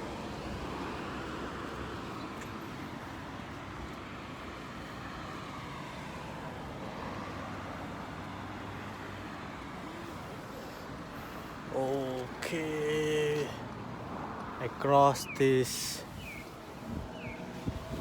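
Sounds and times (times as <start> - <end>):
cars passing: 0.0 - 18.0.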